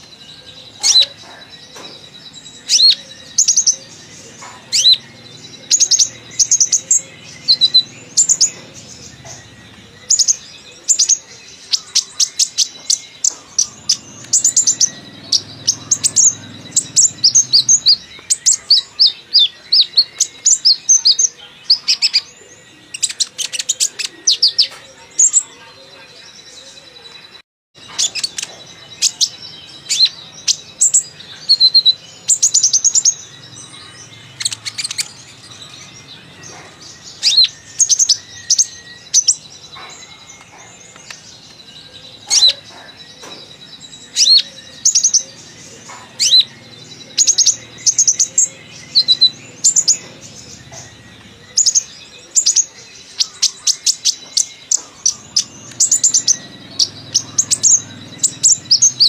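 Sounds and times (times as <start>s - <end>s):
sunbird singing: 0.0s - 59.0s.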